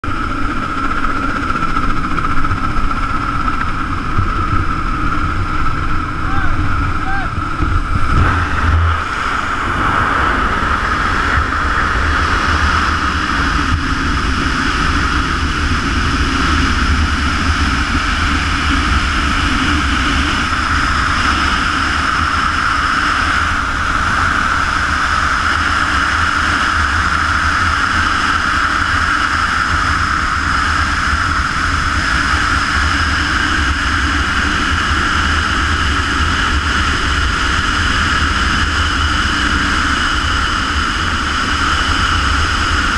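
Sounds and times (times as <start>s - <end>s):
wind rushing on microphone: 0.0s - 42.9s.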